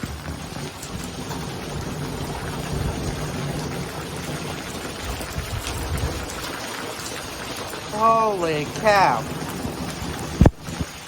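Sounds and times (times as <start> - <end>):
hail and rain on concrete: 0.0 - 11.0
hailstones ticking: 0.0 - 11.0.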